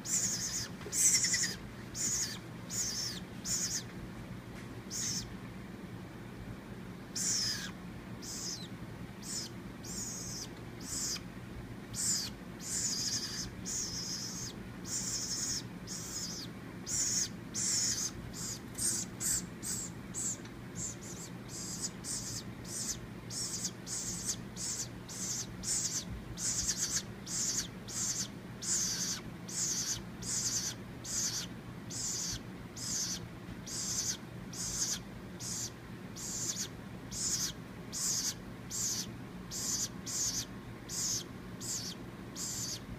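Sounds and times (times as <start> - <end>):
woodpecker nestling begging calls: 0.0 - 3.9, 4.9 - 5.3, 7.1 - 11.3, 11.9 - 42.9.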